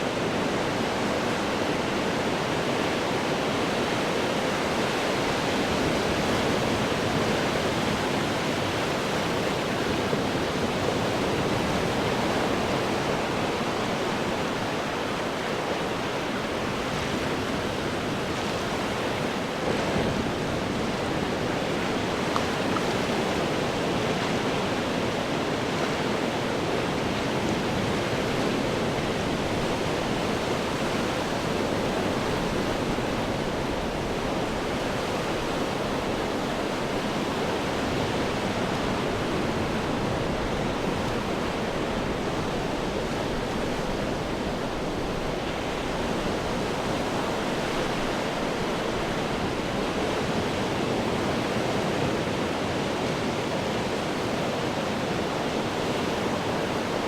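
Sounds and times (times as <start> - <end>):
ocean surf washing over rocks: 0.0 - 57.0.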